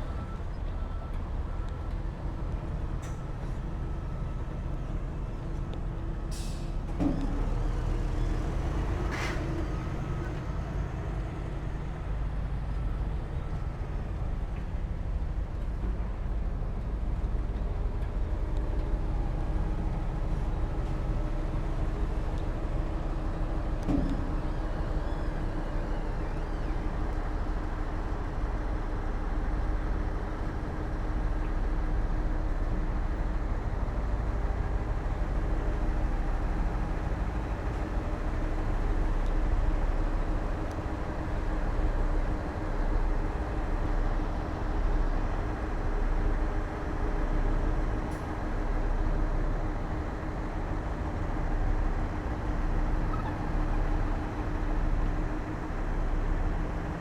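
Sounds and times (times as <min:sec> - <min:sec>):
heavy machinery diesel engines droning: 0:00.0 - 0:57.0.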